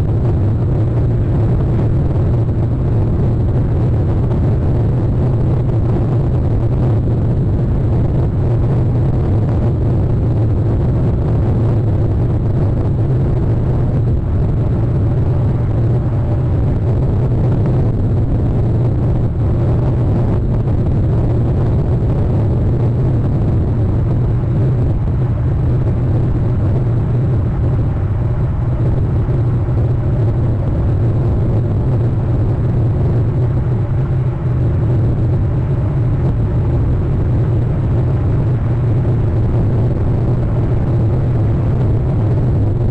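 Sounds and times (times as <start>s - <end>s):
steady low rumbling noise: 0.0s - 42.9s.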